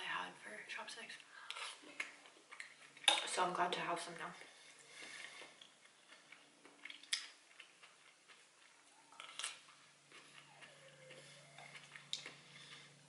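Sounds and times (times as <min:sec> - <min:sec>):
soft chewing: 0:01.0 - 0:13.0.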